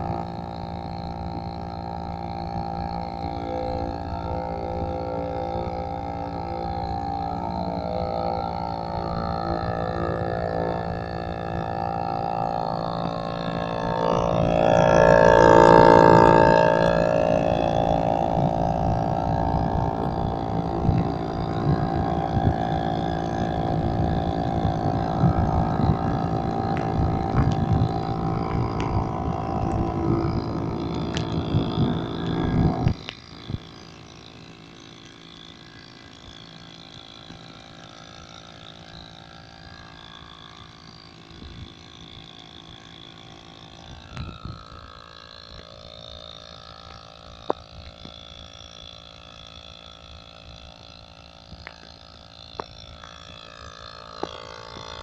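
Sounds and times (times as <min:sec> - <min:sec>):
small engine revving: 0:00.0 - 0:55.0.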